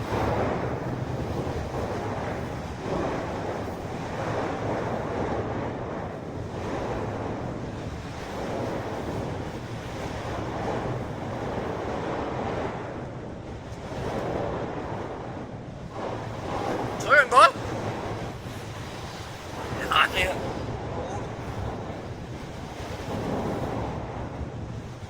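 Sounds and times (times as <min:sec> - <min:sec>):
heavy seas: 0:00.0 - 0:25.0
storm wind buffeting microphone: 0:00.0 - 0:25.0.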